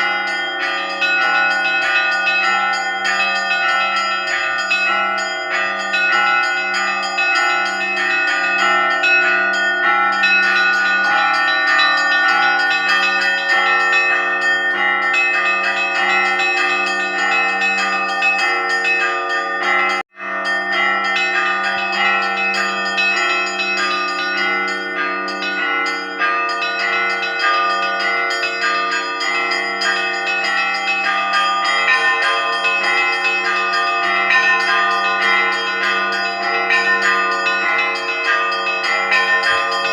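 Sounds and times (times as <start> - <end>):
low church bell: 0.0 - 39.9
peal of higher bells: 0.0 - 39.9.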